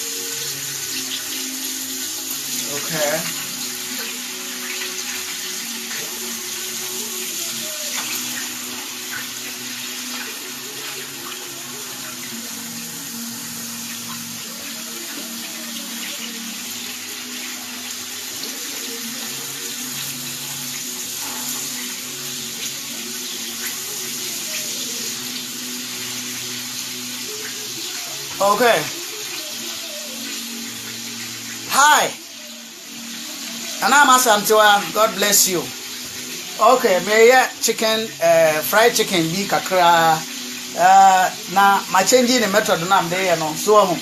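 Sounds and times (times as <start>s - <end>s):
chicken frying in hot oil: 0.0s - 44.0s.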